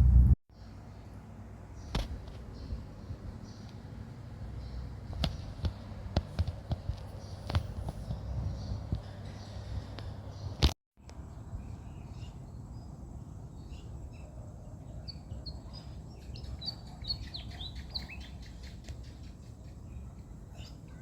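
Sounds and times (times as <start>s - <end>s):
low background rumble: 0.0s - 21.0s
small birds chirping: 0.5s - 21.0s.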